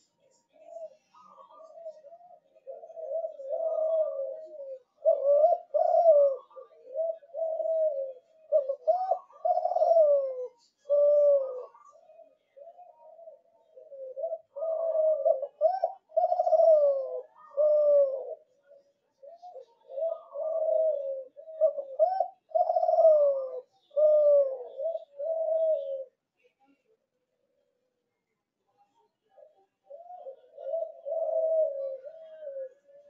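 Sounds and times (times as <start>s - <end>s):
dove cooing: 0.0s - 26.2s, 29.3s - 33.0s.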